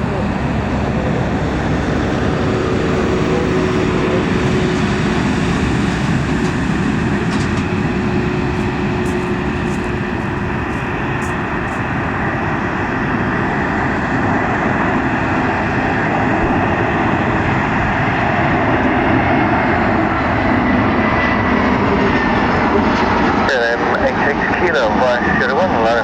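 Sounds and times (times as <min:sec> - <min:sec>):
airliner engine roar: 0:00.0 - 0:26.0.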